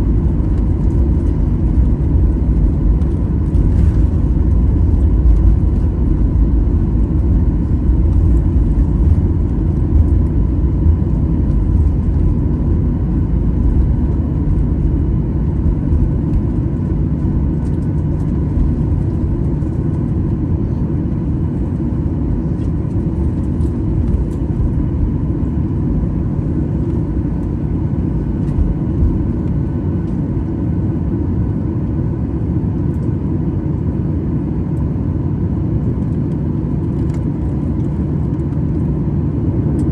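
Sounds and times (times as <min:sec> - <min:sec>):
jet cabin engine rumble: 0:00.0 - 0:39.9.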